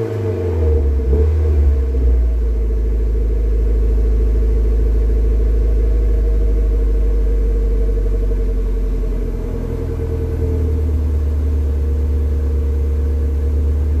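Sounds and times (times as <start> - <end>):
car engine idling: 0.1 - 14.0.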